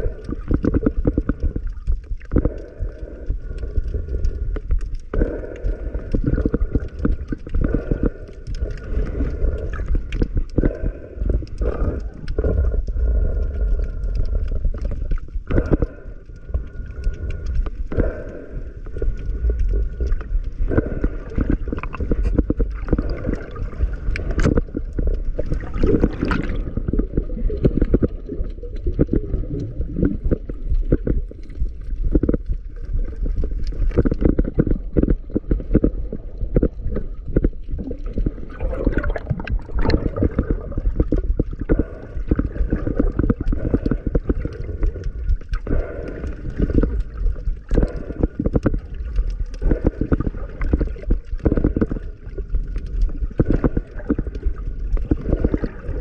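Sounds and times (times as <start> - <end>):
muffled water sloshing underwater: 0.0 - 56.0.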